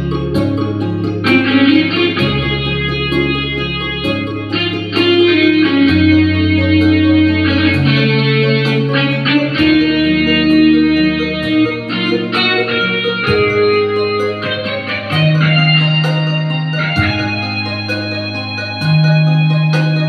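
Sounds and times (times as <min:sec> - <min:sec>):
bass line: 0:00.0 - 0:20.0
electronic keyboard lead melody: 0:00.0 - 0:20.0.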